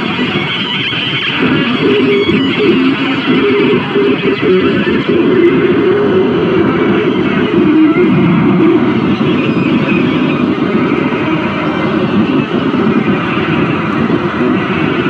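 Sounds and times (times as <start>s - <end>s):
harsh electronic noise music: 0.0s - 15.0s.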